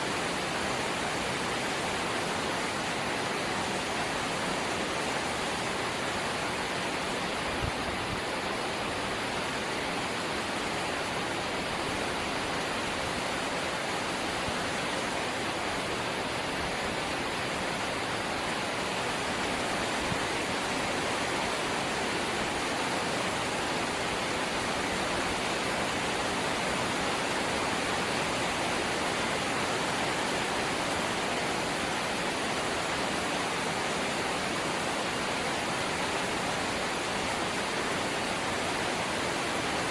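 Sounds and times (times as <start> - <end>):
light rain hissing: 0.0 - 39.9.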